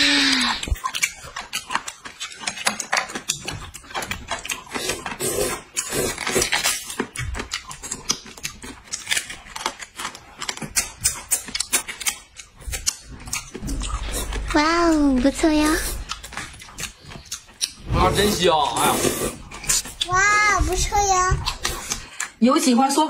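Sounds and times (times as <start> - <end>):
noodles slurped: 0.0 - 14.5, 15.3 - 22.4
chewing clicks and smacks: 0.2 - 14.4, 16.0 - 17.9, 19.4 - 22.4.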